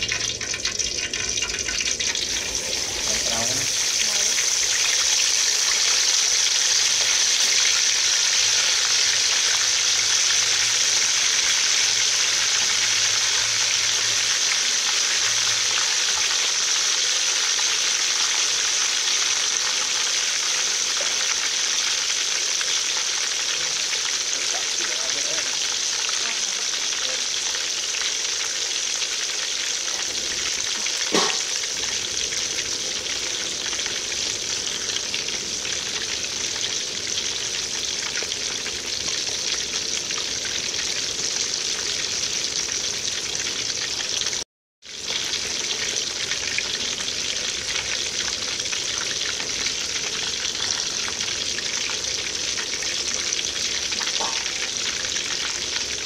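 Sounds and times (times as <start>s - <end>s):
fish sizzling in hot oil: 0.0s - 56.0s.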